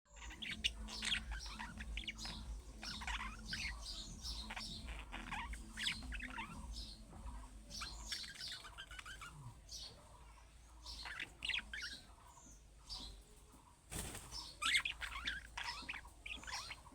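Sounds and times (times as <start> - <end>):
budgerigar chirping and warbling: 0.1 - 13.2, 14.4 - 16.9.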